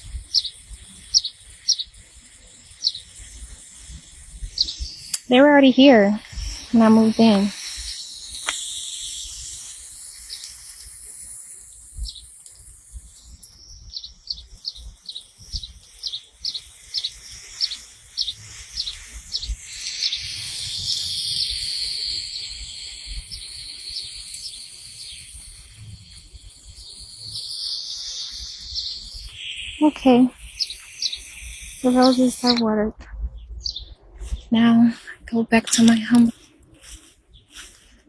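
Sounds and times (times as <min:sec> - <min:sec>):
bird chirping: 0:00.0 - 0:37.8
steady high hiss: 0:00.0 - 0:38.0.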